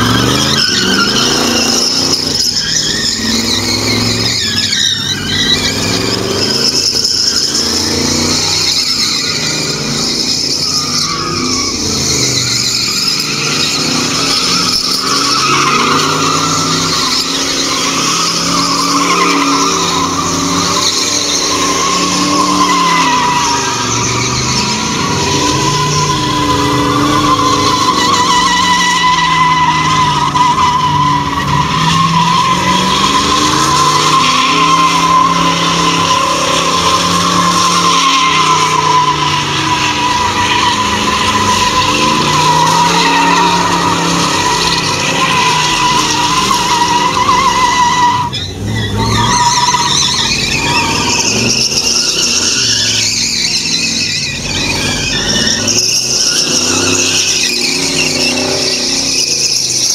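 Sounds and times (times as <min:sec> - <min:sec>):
car engine revving: 0:00.0 - 0:59.9
tyres squealing on tarmac: 0:00.0 - 0:59.9.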